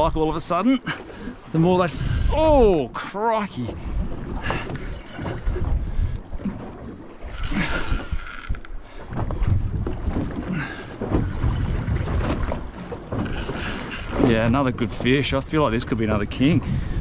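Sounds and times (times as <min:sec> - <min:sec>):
small boat on water: 0:00.0 - 0:17.0
wind rumbling on microphone: 0:01.3 - 0:03.0, 0:03.6 - 0:17.0.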